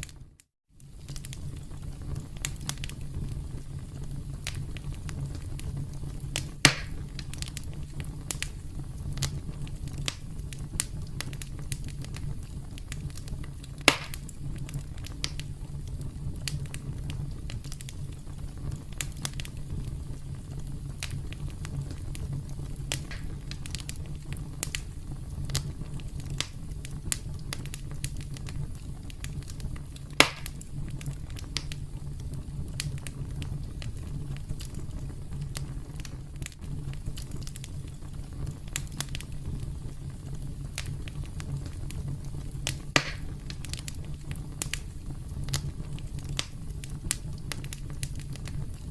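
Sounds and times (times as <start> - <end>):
campfire crackling: 0.0 - 48.9
loud fire pops: 0.0 - 48.9
low rumble of burning: 0.0 - 48.9.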